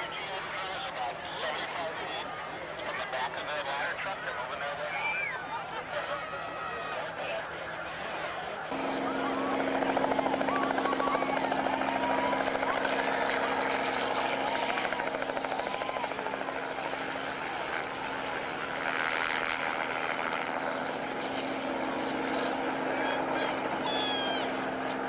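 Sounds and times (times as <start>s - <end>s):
crowd voices and shouts: 0.0s - 25.0s
helicopter rotor chopping: 0.0s - 25.0s.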